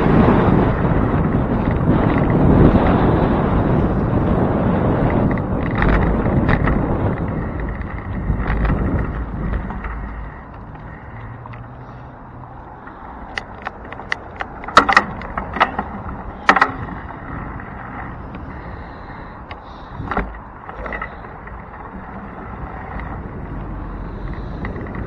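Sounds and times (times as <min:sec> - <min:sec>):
wind rushing over microphone: 0:00.0 - 0:25.0
sharp clicks and rattles: 0:01.4 - 0:11.8, 0:12.8 - 0:25.0.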